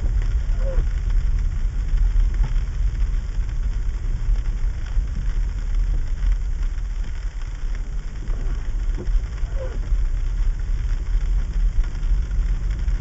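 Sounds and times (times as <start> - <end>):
car driving on sleet: 0.0 - 13.0.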